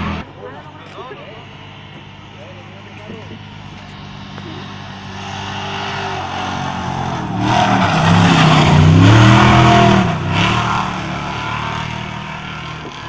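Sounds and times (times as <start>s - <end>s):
truck engine passing at speed: 0.0s - 13.0s.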